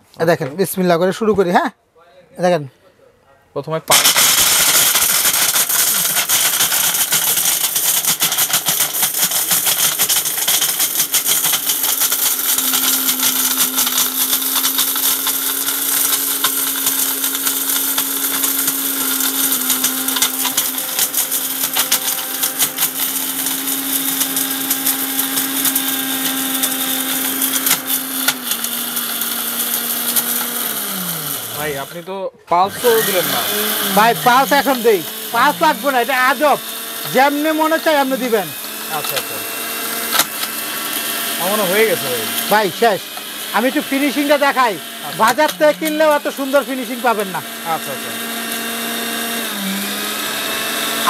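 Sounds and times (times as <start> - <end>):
hard rattling and clicking in jar: 3.9 - 31.8, 33.1 - 48.9
mixer grinder motor whirring: 3.9 - 51.0.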